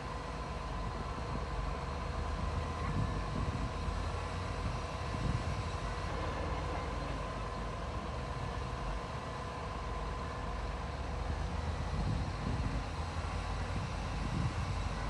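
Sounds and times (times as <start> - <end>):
diesel engine rumbling: 0.0 - 15.0
faint steady whine: 0.0 - 15.0.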